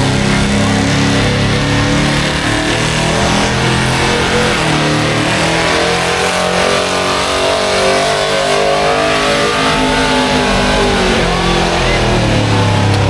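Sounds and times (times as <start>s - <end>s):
truck engine at high revs: 0.0s - 13.0s.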